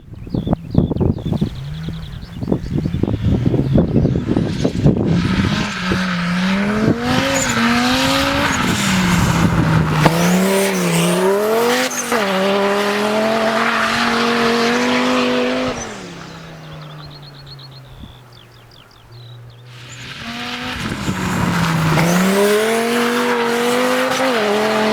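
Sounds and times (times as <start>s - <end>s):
racing engine under load: 0.0s - 24.9s.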